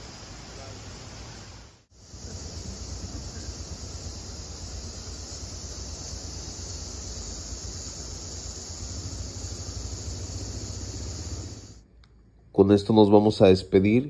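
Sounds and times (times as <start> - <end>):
insect chorus: 0.0 - 11.8.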